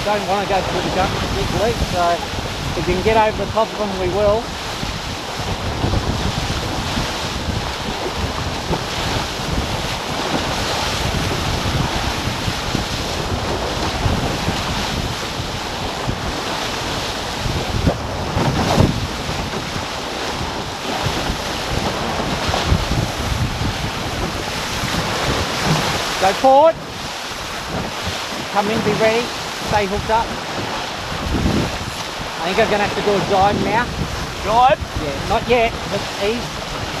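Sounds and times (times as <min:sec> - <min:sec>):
water rushing past hulls: 0:00.0 - 0:37.0
wind buffeting microphone: 0:00.0 - 0:37.0.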